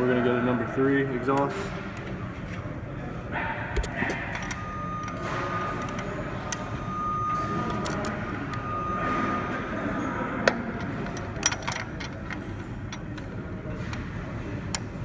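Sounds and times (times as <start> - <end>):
thin steady whine: 0.0 - 15.0.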